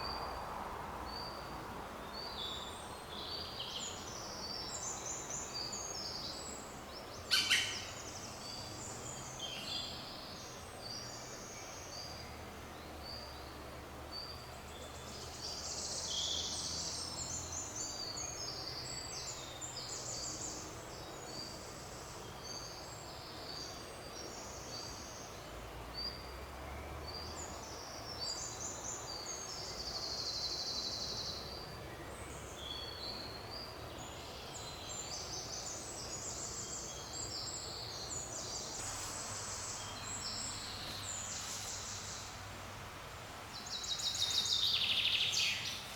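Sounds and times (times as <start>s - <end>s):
small birds singing: 1.1s - 45.9s.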